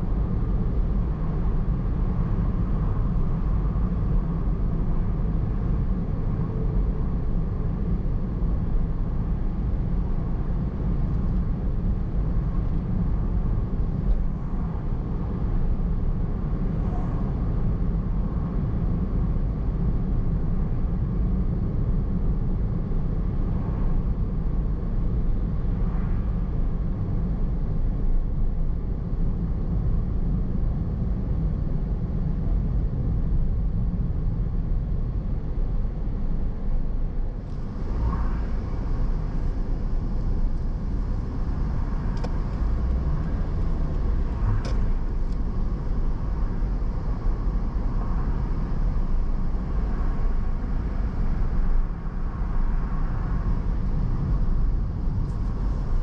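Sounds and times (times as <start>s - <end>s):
car driving on road: 0.0s - 56.0s.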